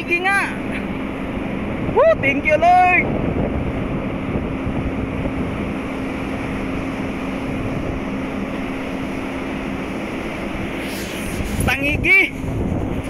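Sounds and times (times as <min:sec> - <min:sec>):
ship engine humming: 0:00.0 - 0:13.0
wind buffeting microphone: 0:00.0 - 0:13.0.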